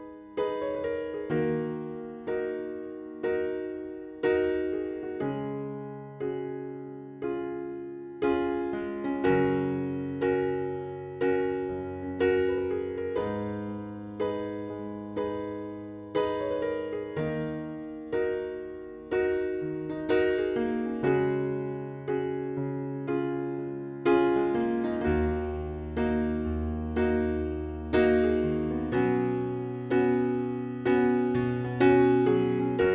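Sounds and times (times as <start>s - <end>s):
electric piano chords: 0.0s - 32.9s.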